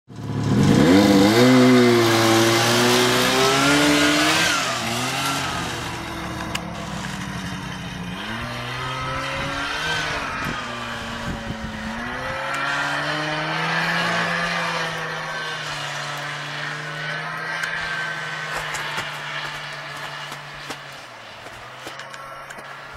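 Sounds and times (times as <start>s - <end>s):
snowmobile engine revving: 0.2s - 22.9s.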